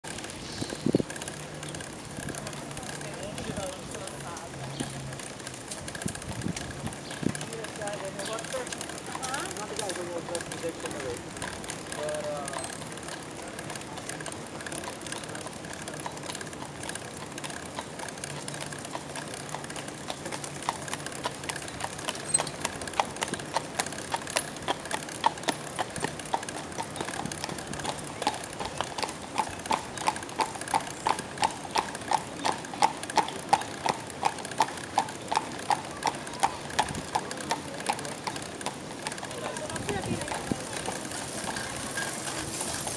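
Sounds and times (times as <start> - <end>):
horse hooves clip-clopping on pavement: 0.0 - 42.9.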